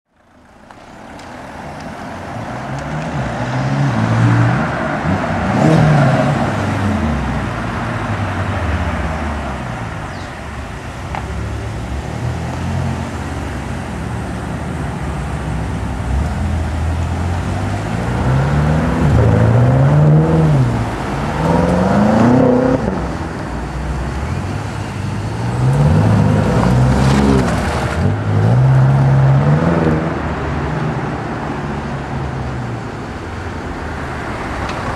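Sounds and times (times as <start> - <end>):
cars accelerating past: 1.1 - 10.3, 11.1 - 33.2.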